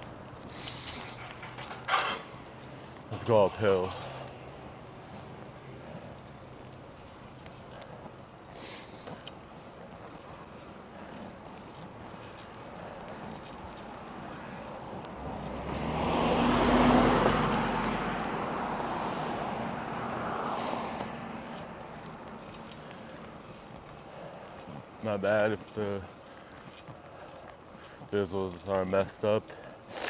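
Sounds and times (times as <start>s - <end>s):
vehicle passing by: 0.0s - 8.0s, 8.6s - 27.3s.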